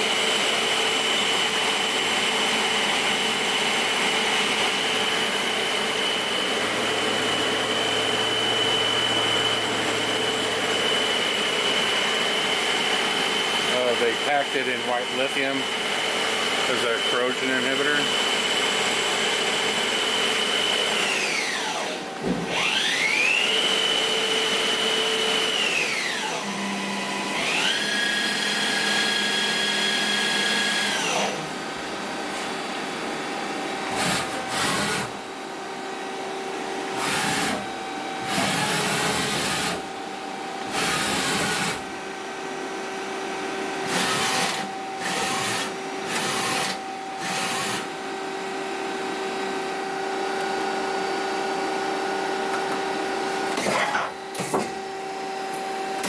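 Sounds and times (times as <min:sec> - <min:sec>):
lathe drive whine: 0:00.0 - 0:56.0.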